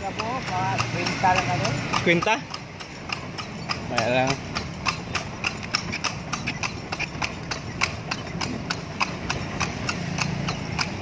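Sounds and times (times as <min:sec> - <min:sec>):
horse hooves clip-clopping on asphalt: 0:00.0 - 0:11.0.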